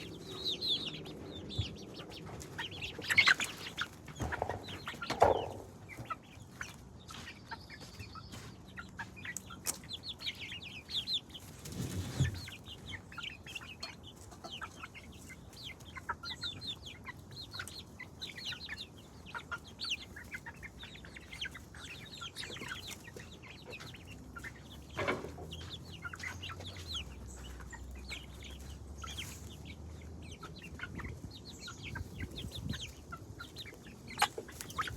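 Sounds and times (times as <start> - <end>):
chickens clucking and calling: 0.0 - 34.9.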